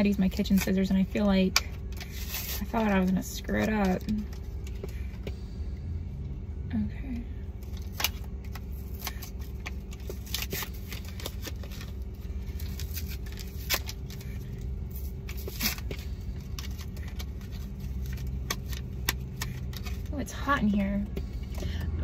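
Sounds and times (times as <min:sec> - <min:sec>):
car cabin hum: 0:00.0 - 0:22.0.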